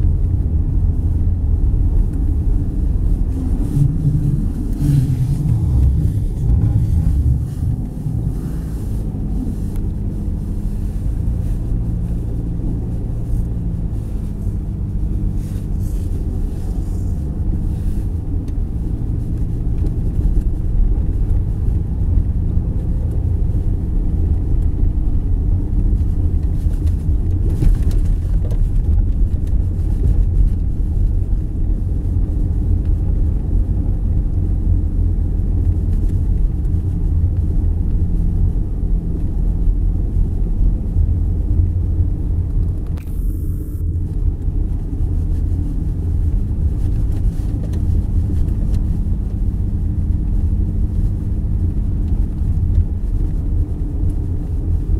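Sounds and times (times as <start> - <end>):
engine and tyres on snow rumbling: 0.0 - 54.9.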